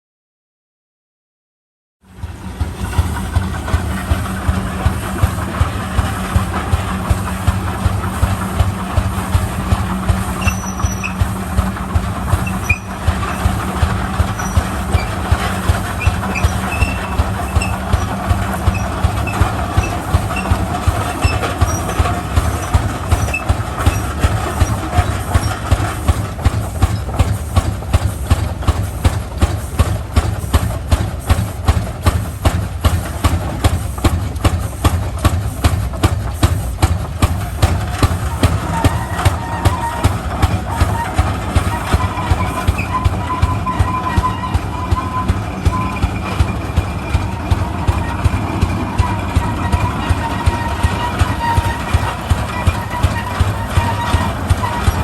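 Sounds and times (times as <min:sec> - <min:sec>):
tractor engine slow firing beat: 0:02.1 - 0:55.0.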